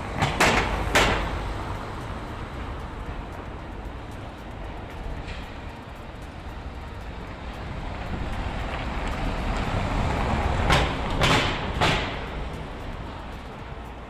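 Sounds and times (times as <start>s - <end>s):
van driving on cobblestones: 0.0s - 14.0s.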